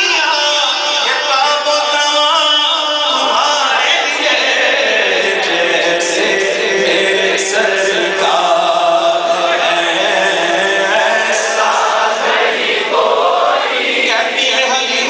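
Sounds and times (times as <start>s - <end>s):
man singing into a microphone: 0.0s - 12.9s, 13.6s - 15.0s.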